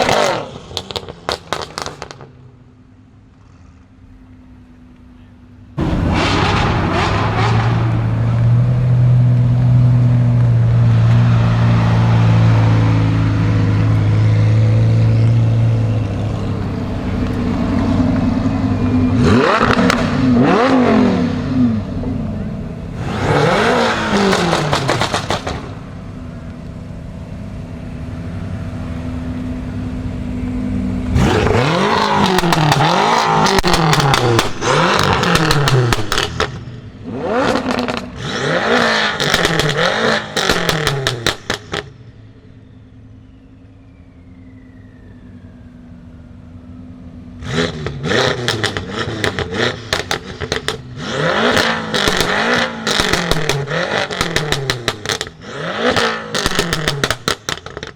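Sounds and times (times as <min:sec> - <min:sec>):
exhaust crackles and pops: 0:00.0 - 0:02.6, 0:05.8 - 0:21.4, 0:23.0 - 0:27.5, 0:28.4 - 0:42.1, 0:47.5 - 0:57.9
car engine idling and revving: 0:00.0 - 0:57.9.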